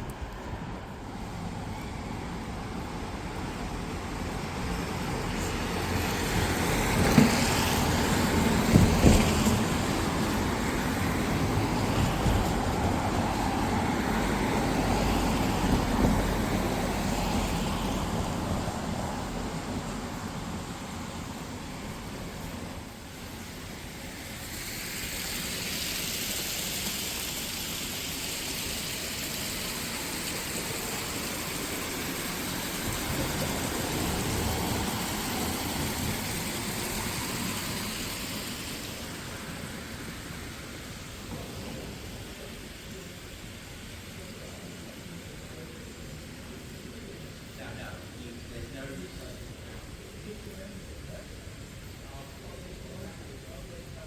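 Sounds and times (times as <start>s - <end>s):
steady hiss: 0.0s - 54.0s
vehicle passing on wet road: 1.3s - 45.2s.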